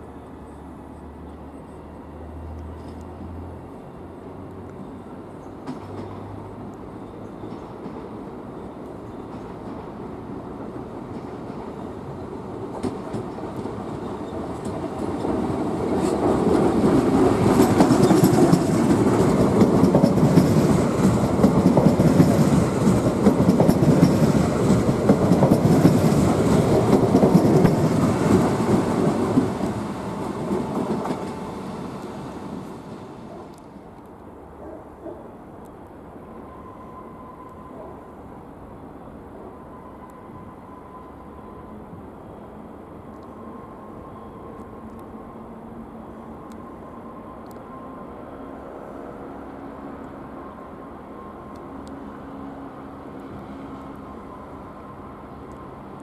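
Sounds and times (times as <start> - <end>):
passenger train passing: 0.0 - 56.0.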